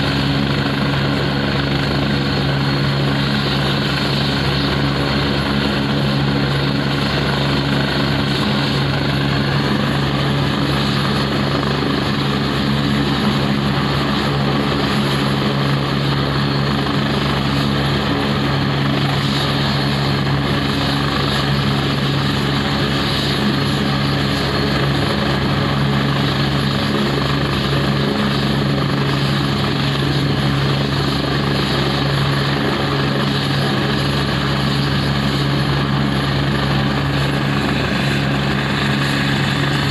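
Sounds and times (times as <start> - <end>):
helicopter turbine and rotor noise: 0.0 - 39.9.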